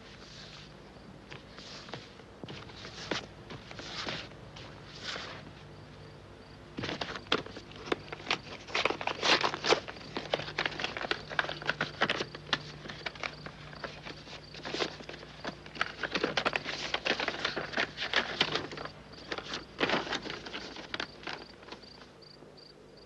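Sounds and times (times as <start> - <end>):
paper rustling and crinkling: 0.0 - 0.7, 1.3 - 5.7, 6.8 - 22.2.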